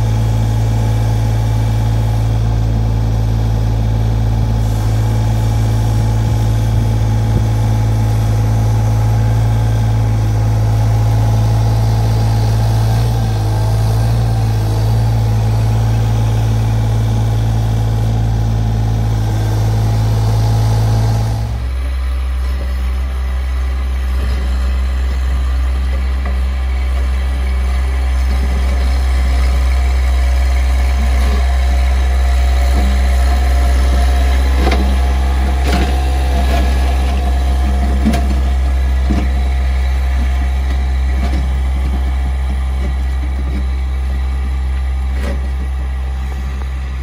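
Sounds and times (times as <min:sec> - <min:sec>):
excavator diesel engine idling: 0:00.0 - 0:47.0
tractor engine: 0:00.0 - 0:47.0.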